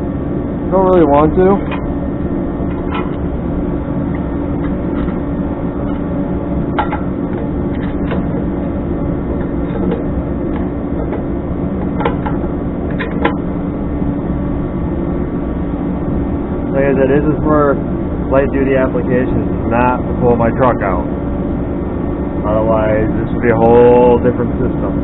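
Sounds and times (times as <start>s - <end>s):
heater humming: 0.0s - 25.0s.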